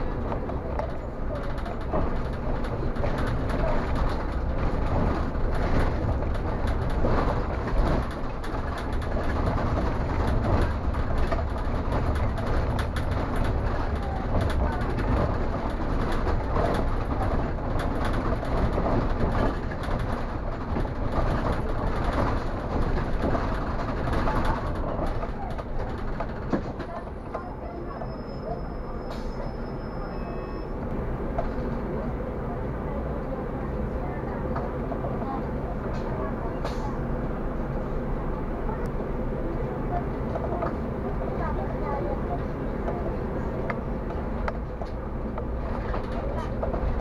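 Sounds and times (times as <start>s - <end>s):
tram motor and wheels rumbling: 0.0s - 47.0s.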